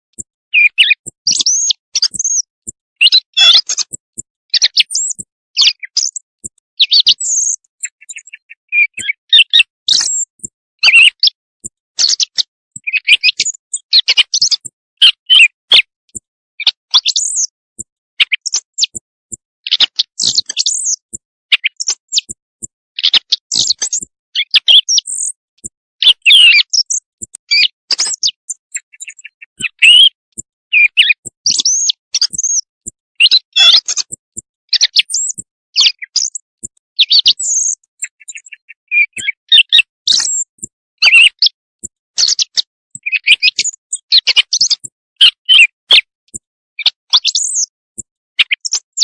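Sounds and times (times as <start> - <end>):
bird chirps trills and whistles: 0.2 - 49.0.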